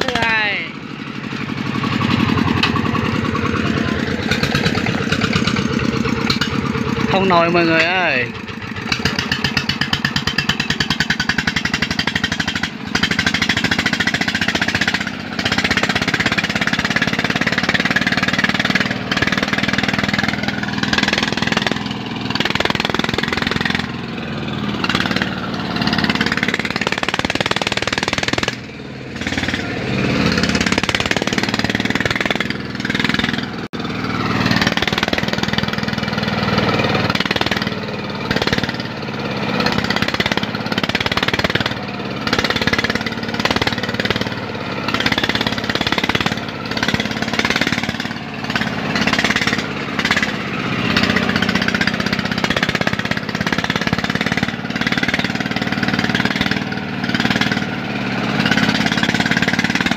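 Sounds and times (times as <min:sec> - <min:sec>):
tractor diesel engine hammering: 0:00.0 - 0:59.9.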